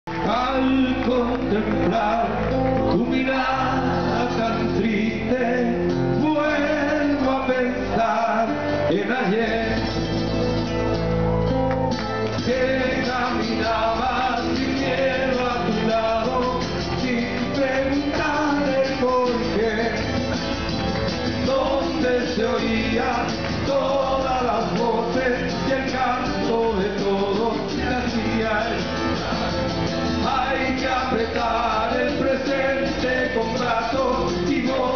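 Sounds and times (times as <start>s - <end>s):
folk-rock band playing live: 0.1s - 34.9s
people singing: 0.2s - 10.1s, 12.3s - 34.9s.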